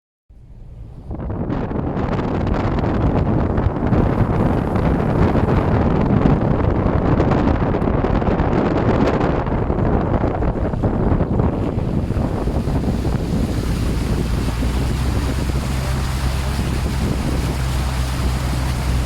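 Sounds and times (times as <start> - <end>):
water splashing against vehicle: 0.4 - 19.0.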